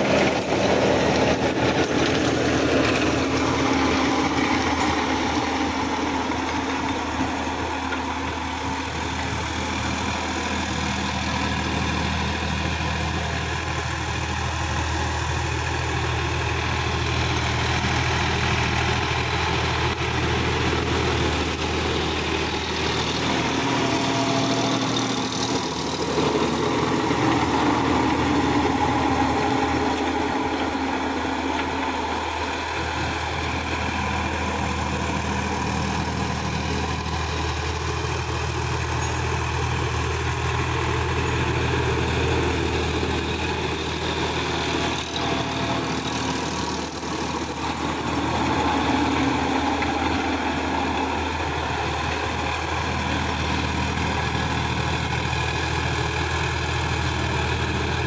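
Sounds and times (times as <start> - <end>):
rotary tiller through soil: 0.0 - 58.0
tractor diesel engine under load: 0.0 - 58.0.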